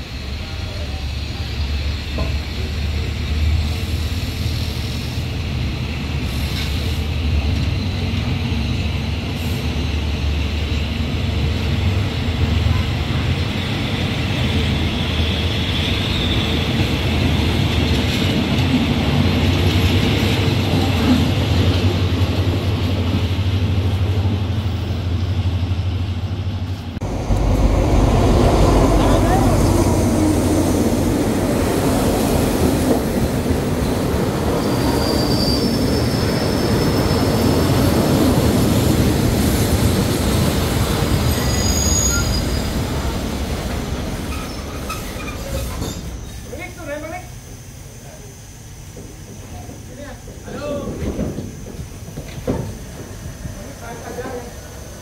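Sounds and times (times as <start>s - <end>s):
train wheels rolling hiss: 0.0s - 25.5s, 26.6s - 55.0s
approaching diesel locomotive: 0.0s - 55.0s
diesel train engine drone: 0.0s - 55.0s.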